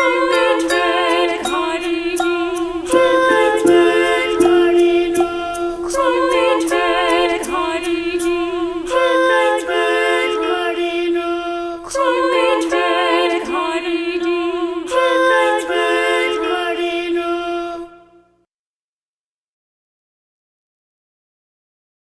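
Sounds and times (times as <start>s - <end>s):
voices singing unaccompanied: 0.0s - 18.2s.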